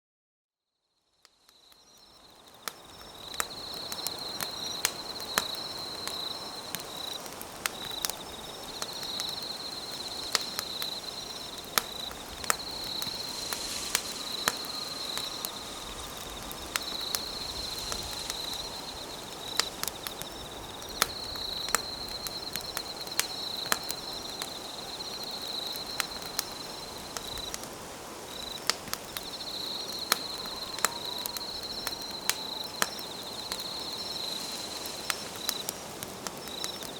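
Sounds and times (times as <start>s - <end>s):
insects chirping: 1.2s - 36.9s
campfire crackling and popping: 1.8s - 36.9s.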